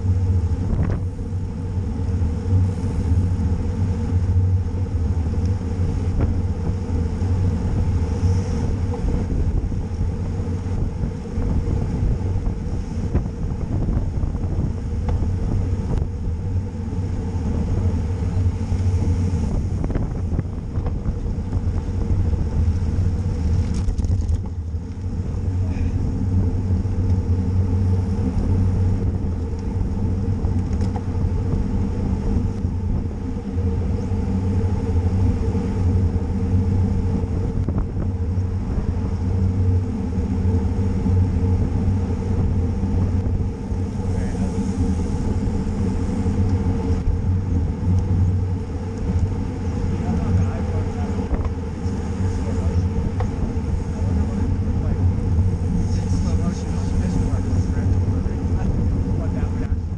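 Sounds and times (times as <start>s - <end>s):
road rumble: 0.0s - 59.9s
wind rushing: 0.0s - 59.9s.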